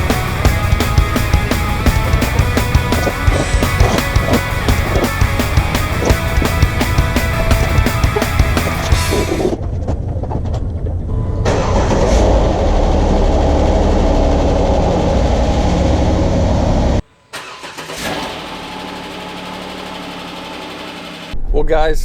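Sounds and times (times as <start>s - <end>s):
car engine running: 0.0s - 9.6s, 13.0s - 21.4s.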